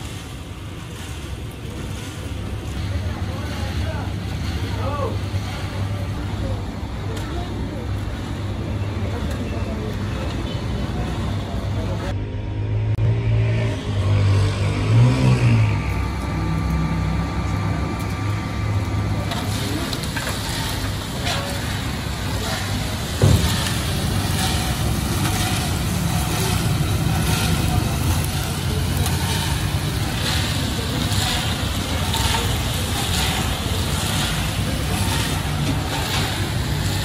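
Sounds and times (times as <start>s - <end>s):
engine droning: 0.0s - 37.0s.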